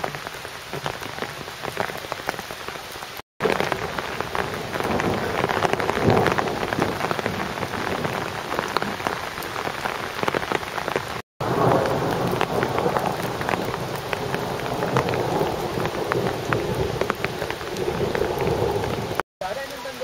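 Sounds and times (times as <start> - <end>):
heavy rain hiss: 0.0 - 20.0
raindrops ticking close by: 0.0 - 20.0.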